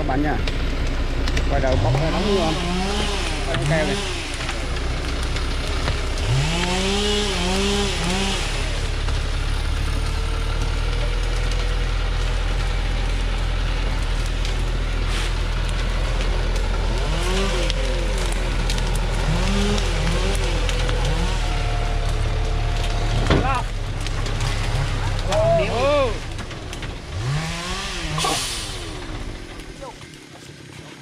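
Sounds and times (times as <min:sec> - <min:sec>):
diesel truck engine under load: 0:00.0 - 0:30.6
debris crackling under tyres: 0:00.0 - 0:31.0.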